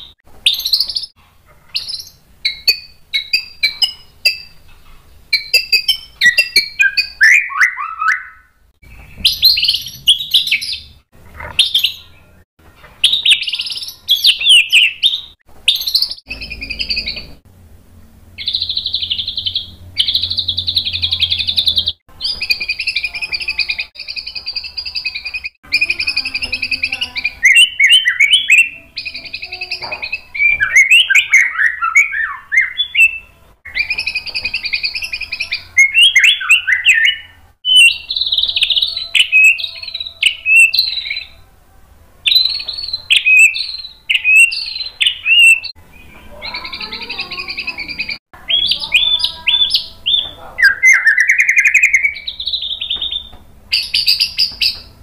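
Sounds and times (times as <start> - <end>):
songbird singing: 0.0 - 41.6, 42.2 - 55.0.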